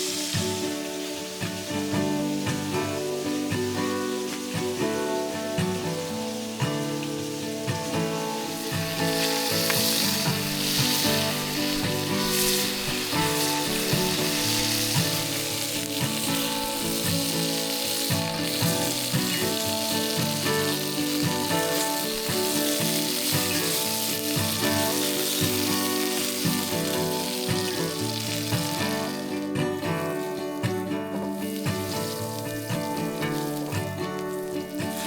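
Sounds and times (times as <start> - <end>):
background music: 0.0 - 35.0
food sizzling in a pan: 0.0 - 35.0
stirring in a pan: 0.0 - 35.0.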